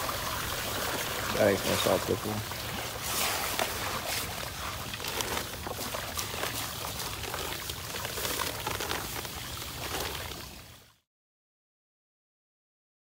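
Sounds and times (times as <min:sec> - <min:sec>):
salt pouring into water: 0:00.0 - 0:10.8.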